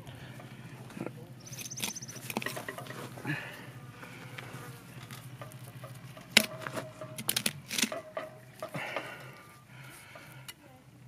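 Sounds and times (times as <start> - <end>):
fly buzzing: 0.0 - 10.1.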